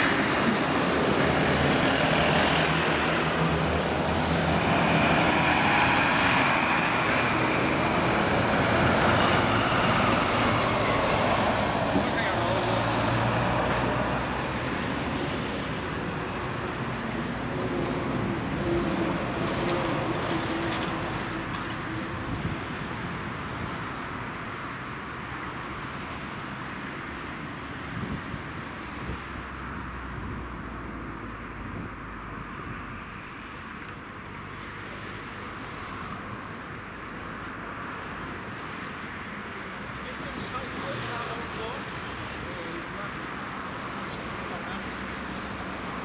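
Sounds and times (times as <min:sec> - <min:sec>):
fire engine diesel engines: 0:00.0 - 0:46.0.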